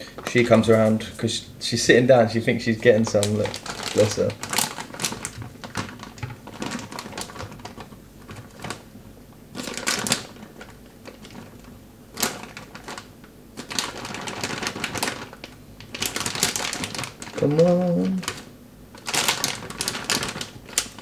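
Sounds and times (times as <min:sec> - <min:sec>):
plastic bag crinkling: 0:02.7 - 0:08.9, 0:09.5 - 0:21.0.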